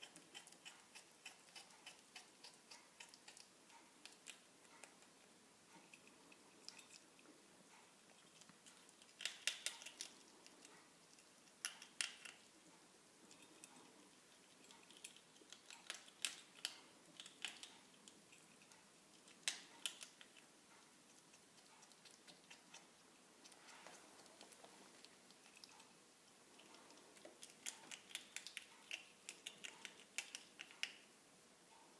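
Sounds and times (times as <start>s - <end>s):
ferret teeth clicking and crunching: 0.0s - 5.2s, 8.1s - 12.6s, 13.3s - 31.1s.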